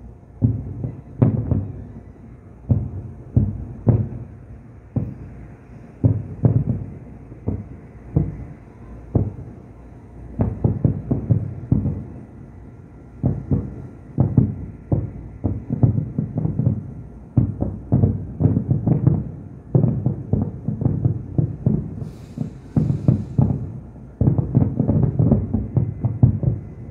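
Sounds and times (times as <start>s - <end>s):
distant fireworks booming: 0.0s - 26.9s.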